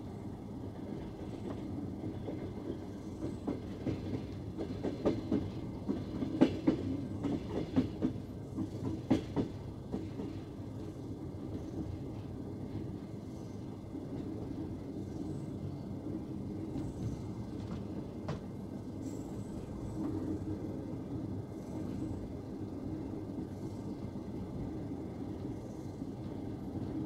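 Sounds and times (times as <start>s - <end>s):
train coach rumbling: 0.0s - 27.0s.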